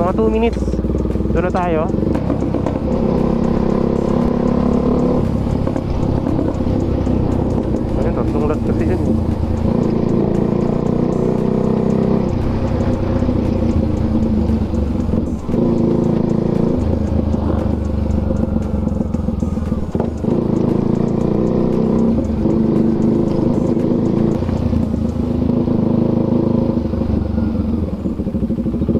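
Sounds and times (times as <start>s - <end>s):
motorcycle engine riding: 0.0s - 28.9s.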